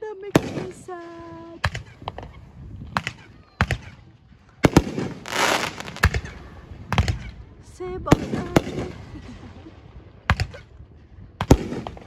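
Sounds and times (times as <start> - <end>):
firework crackling: 0.0 - 10.6
firework bangs: 0.3 - 12.0.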